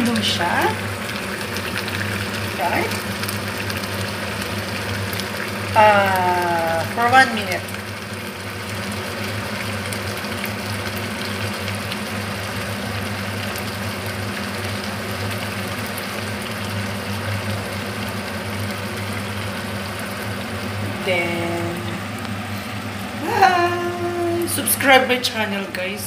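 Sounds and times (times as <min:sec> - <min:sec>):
stew bubbling: 0:00.0 - 0:24.9
low mechanical hum: 0:00.0 - 0:26.0.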